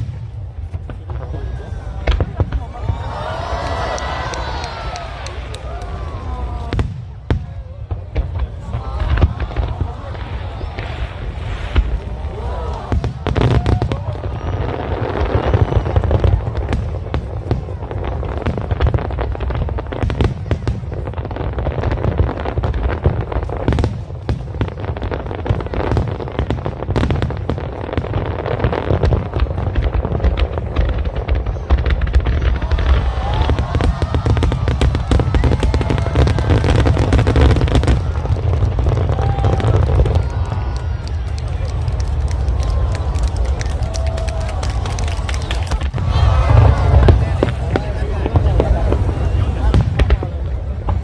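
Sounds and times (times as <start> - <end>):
deep fireworks booms: 0.0 - 51.0
fireworks bangs and crackles: 0.0 - 51.0.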